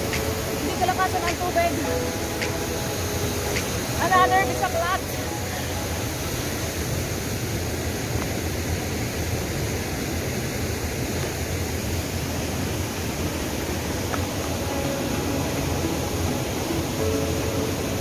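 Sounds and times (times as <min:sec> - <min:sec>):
stream rushing over stones: 0:00.0 - 0:18.0.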